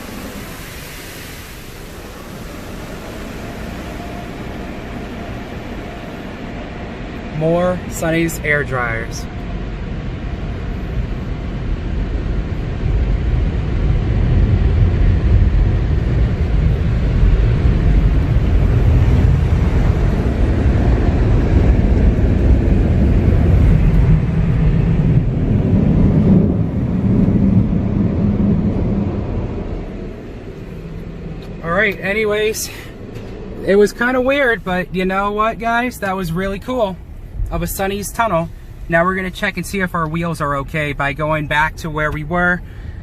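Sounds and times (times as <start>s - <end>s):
car wash air dryers blowing: 0.0s - 43.0s.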